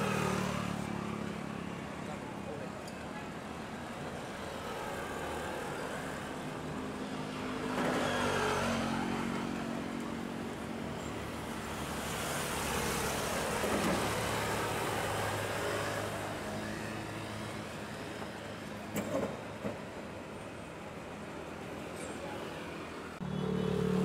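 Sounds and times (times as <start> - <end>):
vehicle engines passing close: 0.0 - 3.3, 3.9 - 19.7, 21.9 - 24.0
harbour background noise: 0.0 - 24.0.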